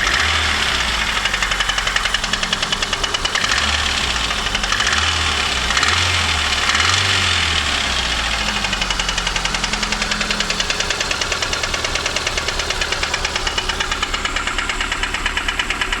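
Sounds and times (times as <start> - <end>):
car engine revving and idling: 0.0 - 16.0
ringing engine knock: 0.0 - 16.0.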